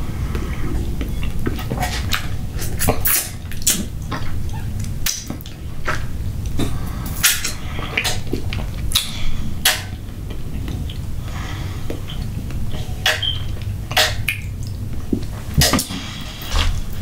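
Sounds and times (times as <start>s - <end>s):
person chewing and smacking: 0.2s - 17.0s.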